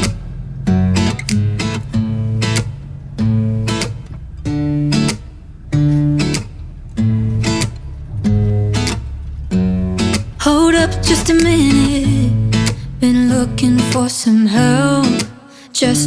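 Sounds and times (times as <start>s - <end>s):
steady bass line: 0.0s - 13.9s
acoustic guitar strumming chords: 0.0s - 16.0s.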